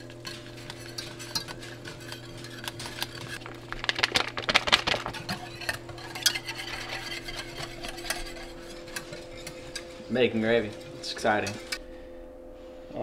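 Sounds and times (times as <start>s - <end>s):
whisk scraping and clinking in saucepan: 0.0s - 3.7s, 5.0s - 11.8s.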